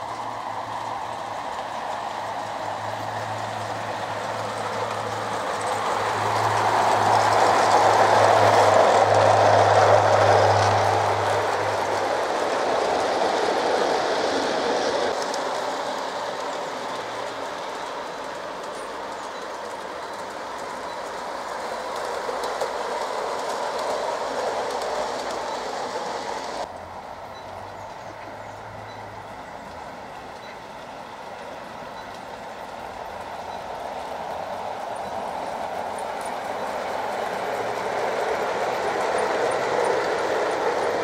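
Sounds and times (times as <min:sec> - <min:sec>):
clicking over rail joints: 0:00.0 - 0:41.0
model train wheels on track: 0:00.0 - 0:41.0.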